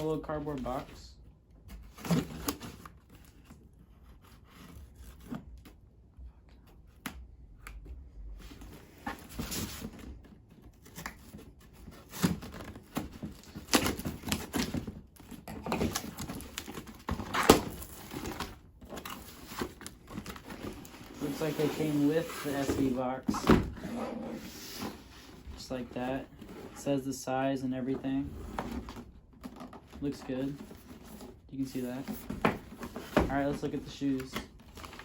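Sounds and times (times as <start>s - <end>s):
cardboard rustling and scraping: 1.6s - 5.8s, 8.3s - 35.0s.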